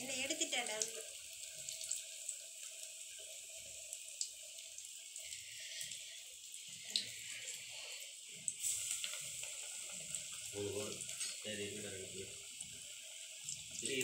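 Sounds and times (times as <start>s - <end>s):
oil sizzling: 0.0s - 14.0s.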